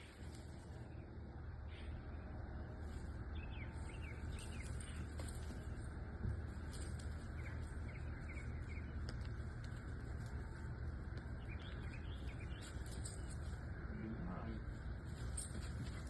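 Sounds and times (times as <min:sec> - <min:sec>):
low background rumble: 0:00.0 - 0:16.0
small birds chirping: 0:00.0 - 0:16.0.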